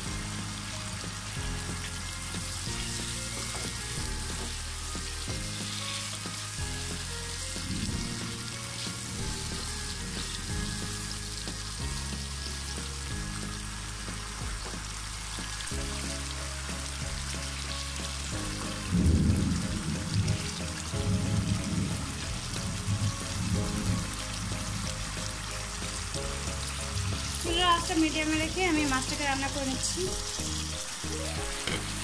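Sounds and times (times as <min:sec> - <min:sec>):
background music: 0:00.0 - 0:32.0
fish sizzling in a pan: 0:00.0 - 0:32.0.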